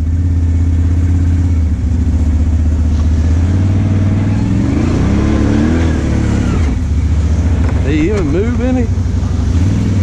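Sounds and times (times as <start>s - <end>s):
engine revving: 0.0s - 10.0s
off-road vehicle engines running: 0.0s - 10.0s.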